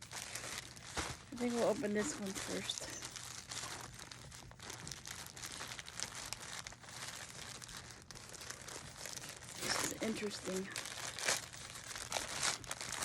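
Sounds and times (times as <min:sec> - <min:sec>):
packaging bag crinkling: 0:00.0 - 0:13.0.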